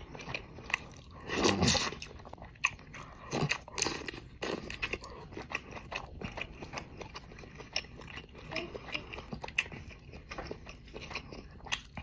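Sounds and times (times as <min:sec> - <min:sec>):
wet chewing and crunching: 0:00.0 - 0:12.0.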